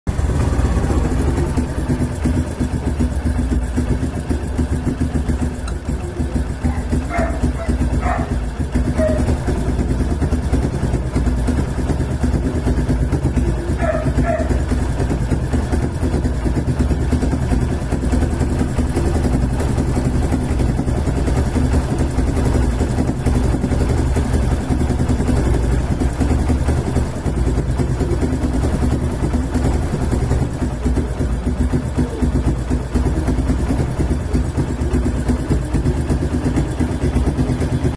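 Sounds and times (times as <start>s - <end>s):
motorcycle engine idling: 0.1s - 37.9s.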